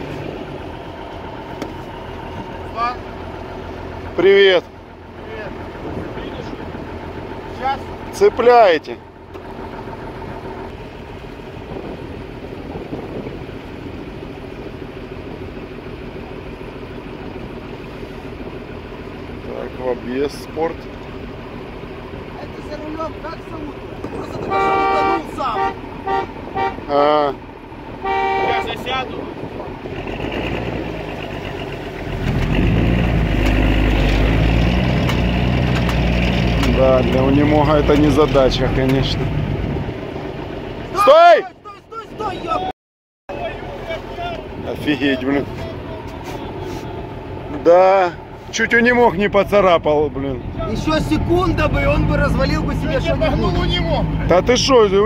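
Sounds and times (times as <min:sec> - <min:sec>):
vehicle engine running: 0:00.0 - 0:42.7, 0:43.3 - 0:55.0.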